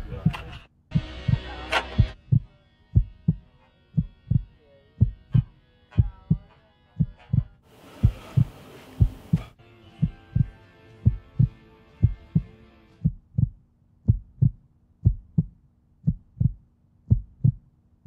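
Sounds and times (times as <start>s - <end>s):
heartbeat thumps: 0.0s - 17.7s.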